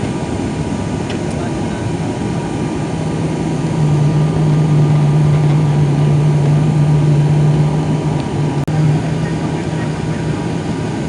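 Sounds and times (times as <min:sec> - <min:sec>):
deep propeller drone: 0:00.0 - 0:11.0
rushing air in aircraft cabin: 0:00.0 - 0:11.0.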